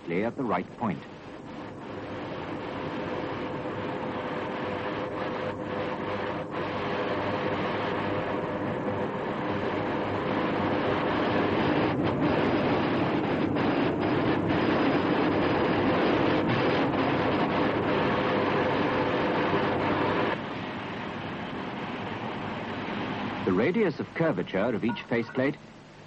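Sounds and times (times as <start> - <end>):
factory machinery rumbling and hissing: 0.0 - 26.0
faint steady hum: 0.0 - 26.0.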